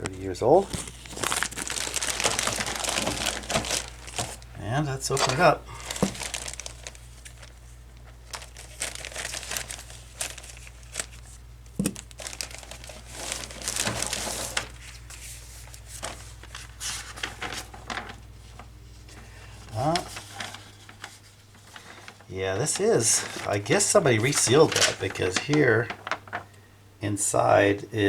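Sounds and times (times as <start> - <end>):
plastic bag crinkling: 0.0 - 26.6.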